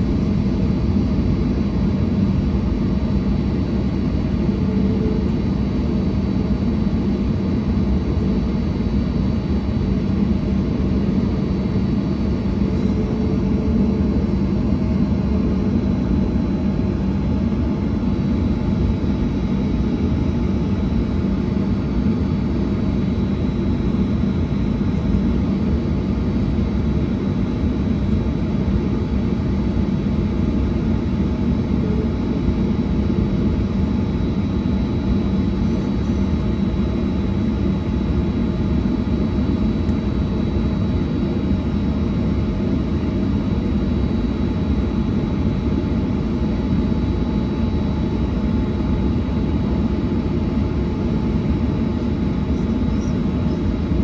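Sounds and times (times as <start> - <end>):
faint high engine whine: 0.0 - 54.0
jet engines idling low rumble: 0.0 - 54.0.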